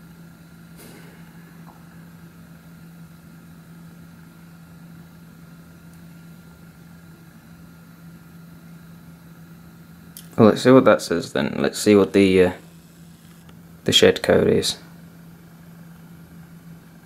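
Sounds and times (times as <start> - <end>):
faint thin whine and hiss: 0.0 - 17.0
steady low hum: 0.0 - 17.0.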